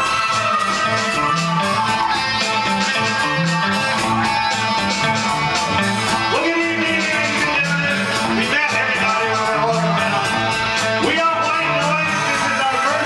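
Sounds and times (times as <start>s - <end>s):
rock band playing: 0.0s - 13.0s
sliding guitar notes: 0.0s - 13.0s.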